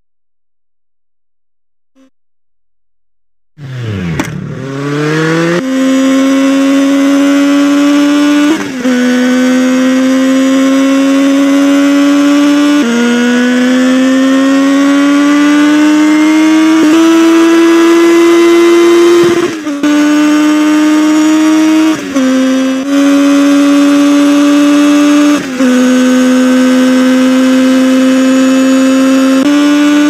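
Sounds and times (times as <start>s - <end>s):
motorcycle engine accelerating: 3.6s - 30.0s.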